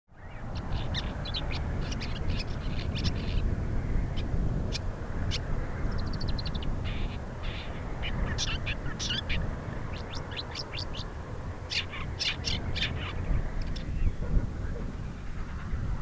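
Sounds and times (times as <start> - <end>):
steady low rumble: 0.2 - 16.0.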